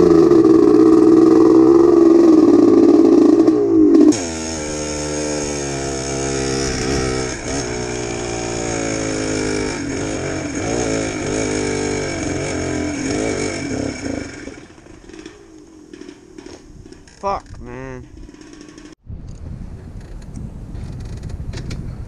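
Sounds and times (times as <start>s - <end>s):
atv engine revving and sputtering: 0.0s - 19.0s.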